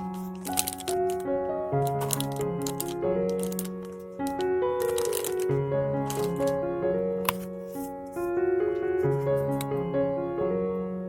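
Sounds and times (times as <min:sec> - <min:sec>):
handling rustle and taps: 0:00.0 - 0:06.6, 0:07.2 - 0:09.8
gentle piano music: 0:00.0 - 0:11.0.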